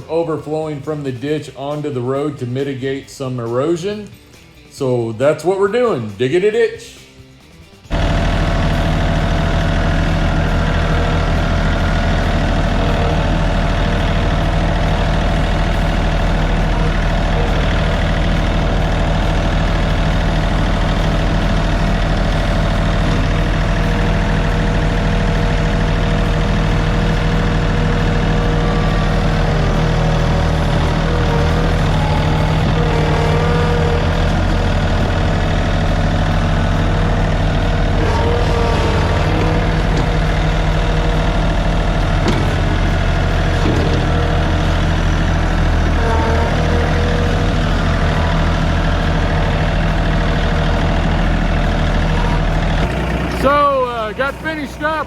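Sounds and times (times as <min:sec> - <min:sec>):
tractor engine running: 0:00.0 - 0:04.4, 0:07.3 - 0:55.0.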